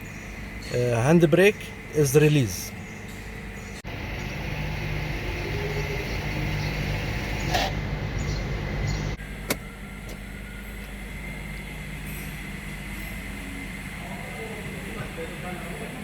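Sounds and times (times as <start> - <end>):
parking brake motor humming: 0.0 - 16.0.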